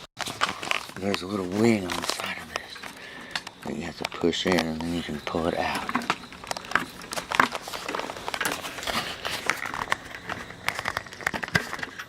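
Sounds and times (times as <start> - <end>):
fitting scraping: 0.2 - 12.0.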